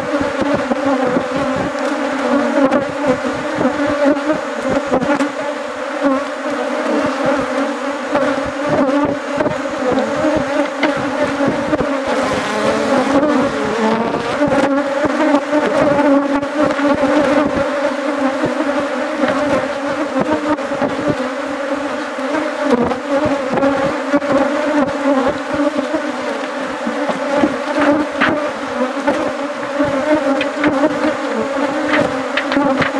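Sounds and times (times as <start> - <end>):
bees buzzing: 0.0 - 32.9.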